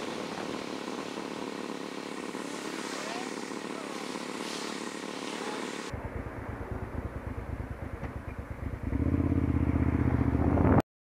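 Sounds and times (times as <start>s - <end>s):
motorcycle engine idling: 0.0s - 10.7s
road and wind noise hiss: 0.0s - 10.8s.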